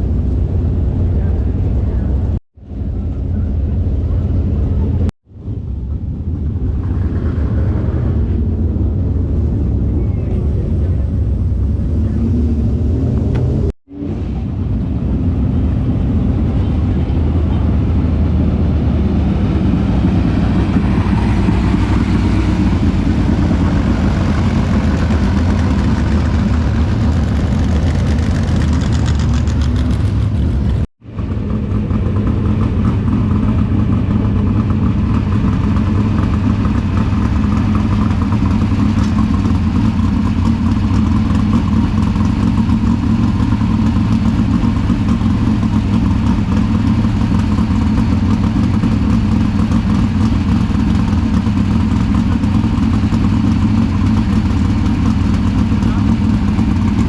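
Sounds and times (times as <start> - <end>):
race car engines running: 0.0 - 57.0.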